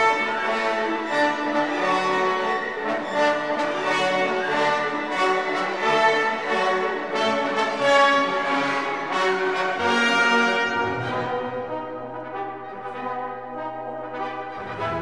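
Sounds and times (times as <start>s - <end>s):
orchestral music brass and strings: 0.0s - 15.0s.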